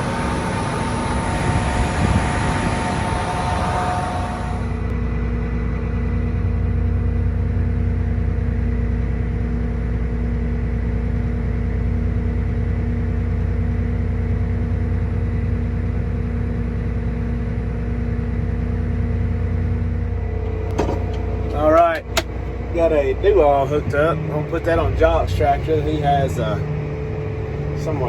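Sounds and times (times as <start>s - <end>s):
vehicle engine droning: 0.0s - 28.0s.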